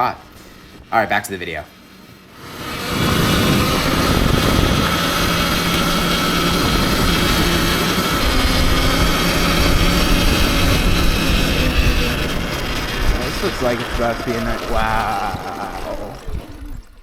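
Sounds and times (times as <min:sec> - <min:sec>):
wind and road noise: 0:00.0 - 0:17.0
electric motor whine: 0:02.1 - 0:17.0.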